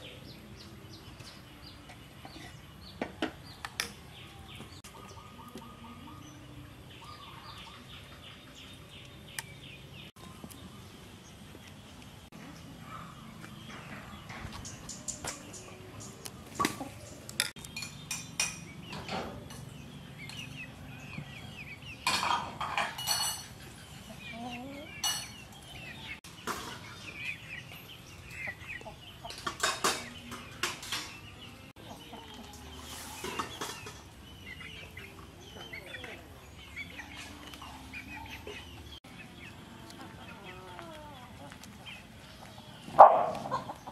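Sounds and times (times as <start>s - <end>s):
chickens clucking: 0.0s - 10.7s, 11.6s - 43.9s.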